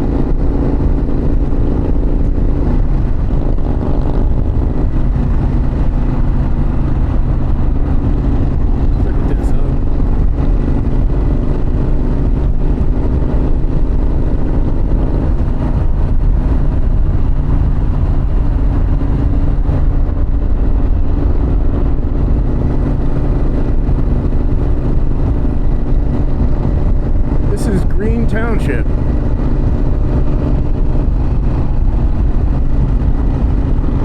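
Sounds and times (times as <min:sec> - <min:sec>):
motorcycle engine cruising: 0:00.0 - 0:34.0
wind rush on microphone: 0:00.0 - 0:34.0.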